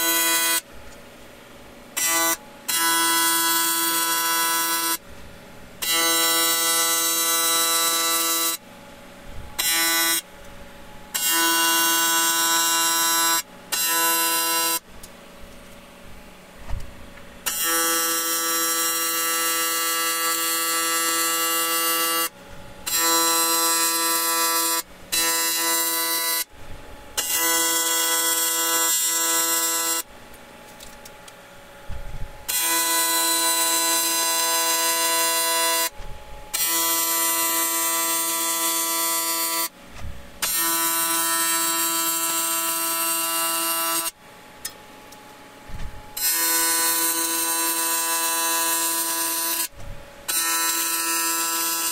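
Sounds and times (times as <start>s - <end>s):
welding arc buzzing: 0.0s - 0.7s, 1.9s - 5.2s, 5.8s - 14.9s, 17.4s - 30.1s, 30.8s - 44.2s, 46.0s - 51.9s.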